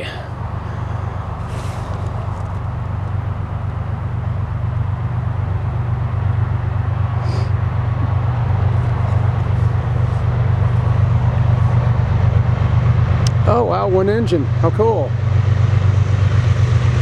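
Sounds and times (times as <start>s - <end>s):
locomotive engine rumbling: 0.0s - 17.0s.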